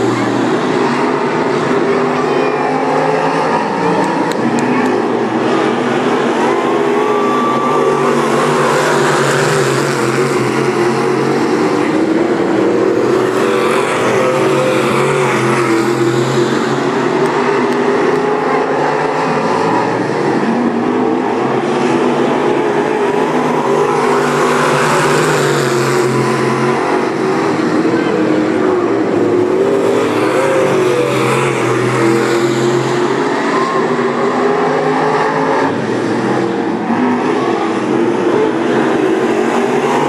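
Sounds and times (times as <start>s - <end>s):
race car engines: 0.0s - 40.0s.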